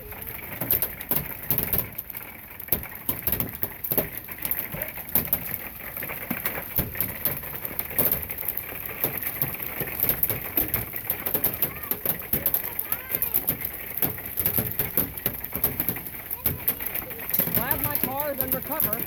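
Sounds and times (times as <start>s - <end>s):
hail pelting down: 0.0s - 19.0s
hailstones knocking on surfaces: 0.0s - 19.0s.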